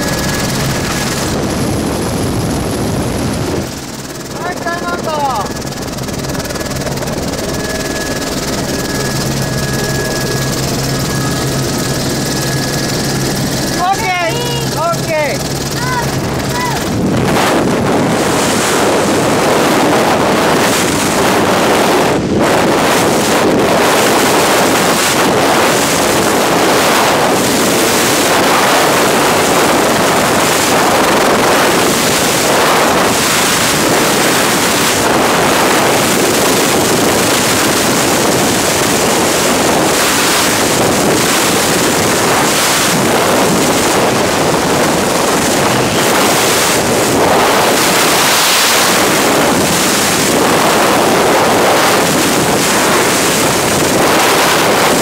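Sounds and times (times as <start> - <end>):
wind blasting microphone: 0.0 - 55.0.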